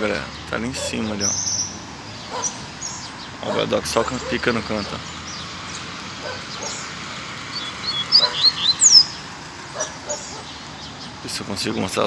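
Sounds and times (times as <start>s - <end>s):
bird singing high chirps: 0.0s - 11.9s.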